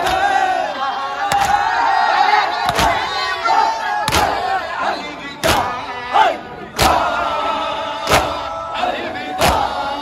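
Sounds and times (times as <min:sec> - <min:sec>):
men chanting: 0:00.0 - 0:10.0.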